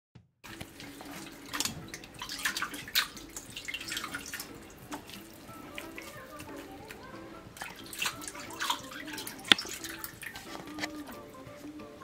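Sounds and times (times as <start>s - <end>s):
water splashing from a tap: 0.5s - 12.0s.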